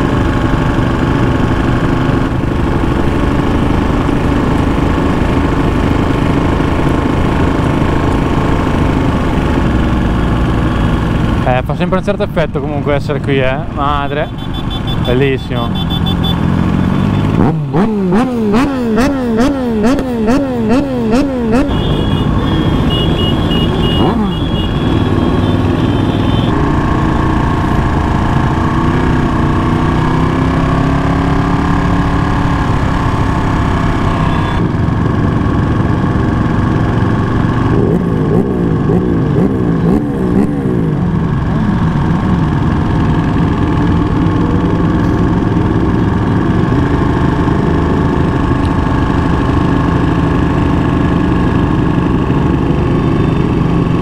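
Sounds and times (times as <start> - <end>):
motorcycle engine running: 0.0 - 54.0
other motorcycles: 0.0 - 54.0.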